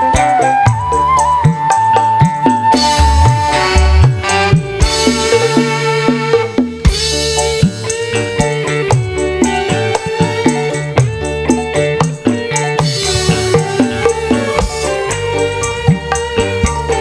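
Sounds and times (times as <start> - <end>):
loud music over pa system: 0.0 - 17.0
shaking percussion: 0.0 - 17.0.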